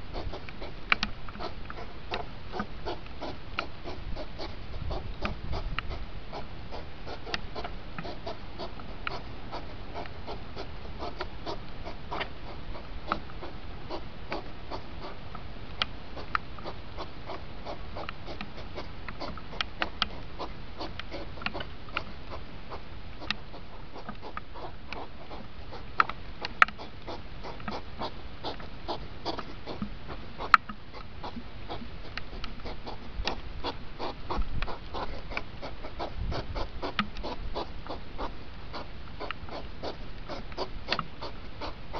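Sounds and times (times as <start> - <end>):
hedgehog snorting and huffing: 0.0 - 15.2, 16.2 - 41.9
steady hiss: 0.0 - 41.9.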